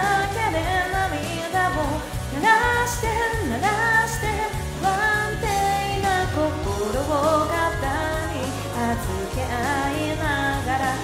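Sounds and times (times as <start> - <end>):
karaoke backing track: 0.0 - 11.0
woman singing pop song: 0.0 - 11.0.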